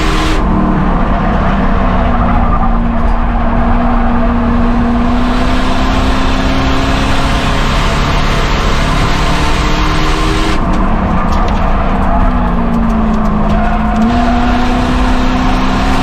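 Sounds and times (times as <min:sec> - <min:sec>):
race car engine running hard: 0:00.0 - 0:16.0
tyre and road noise: 0:00.0 - 0:16.0.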